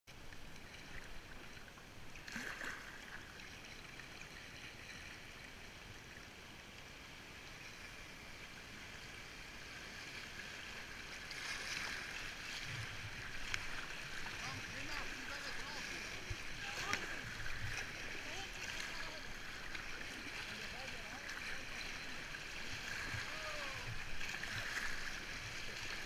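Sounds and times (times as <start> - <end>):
paddle splashes: 0.1 - 6.2, 7.6 - 26.0
river water rushing: 0.1 - 26.0.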